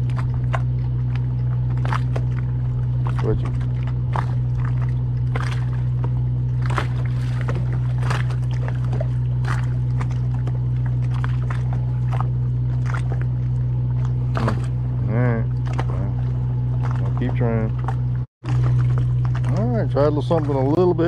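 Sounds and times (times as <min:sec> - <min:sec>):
boat machine hum: 0:00.0 - 0:21.0
water slapping against hull: 0:00.0 - 0:21.0.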